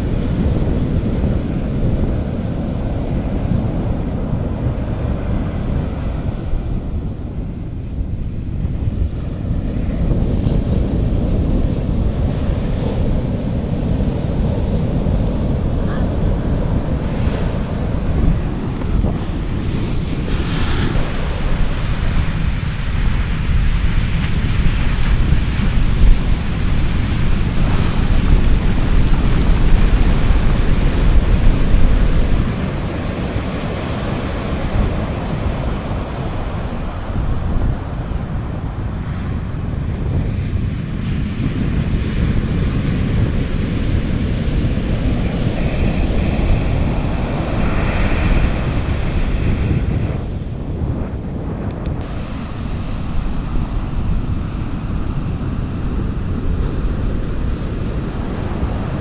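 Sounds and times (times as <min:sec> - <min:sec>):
sea waves washing onto beach: 0:00.0 - 0:59.0
wind buffeting microphone: 0:00.0 - 0:59.0.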